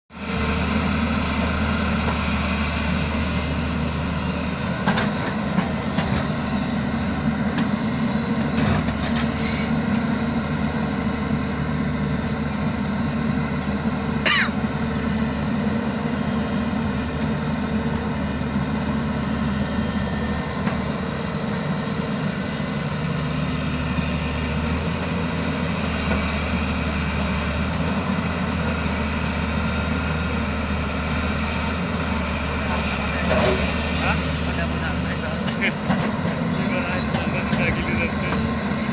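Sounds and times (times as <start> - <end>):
diesel engine of earthmover: 0.1 - 38.9.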